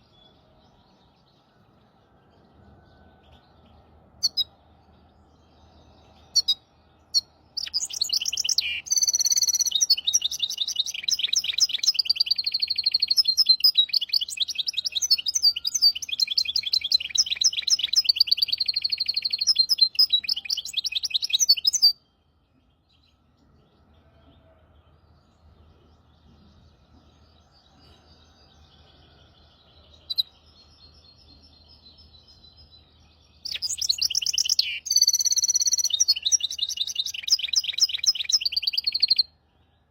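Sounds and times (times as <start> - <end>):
finch singing: 3.0 - 23.8, 24.4 - 39.4.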